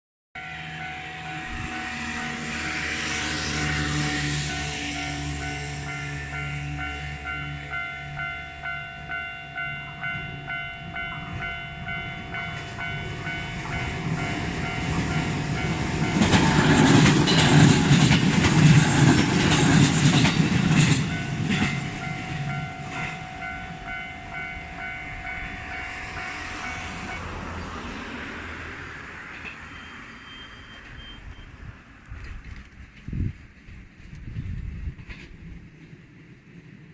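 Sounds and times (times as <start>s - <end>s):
level crossing warning bell: 0.4s - 31.6s
train passing: 0.4s - 36.9s.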